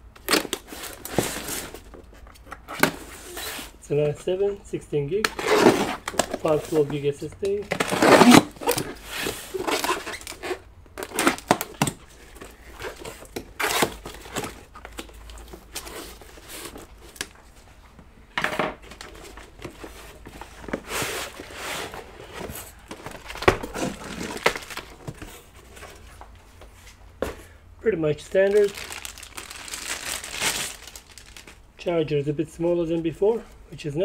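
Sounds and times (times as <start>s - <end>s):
cardboard and plastic rustling: 0.2s - 3.8s, 5.1s - 18.0s, 18.7s - 27.6s, 28.2s - 31.7s.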